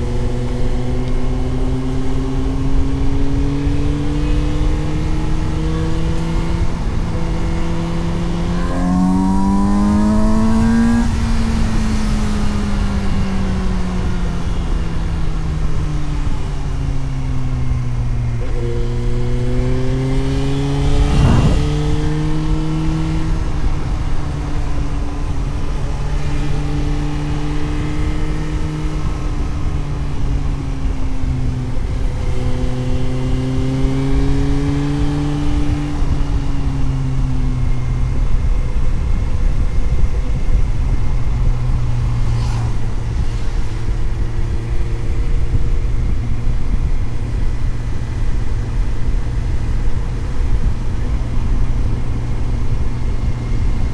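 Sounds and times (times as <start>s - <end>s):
motorcycle engine accelerating: 0.0s - 53.9s
road and wind rumble: 0.0s - 53.9s.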